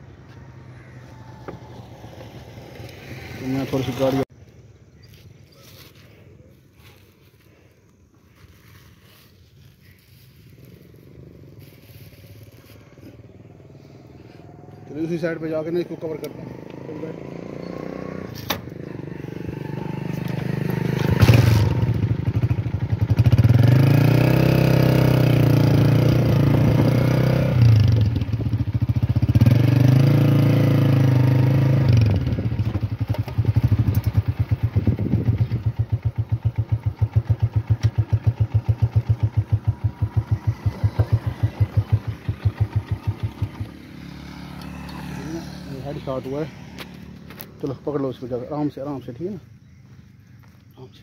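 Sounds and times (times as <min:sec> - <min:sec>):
small motorcycle engine: 0:00.0 - 0:04.3, 0:08.3 - 0:49.0.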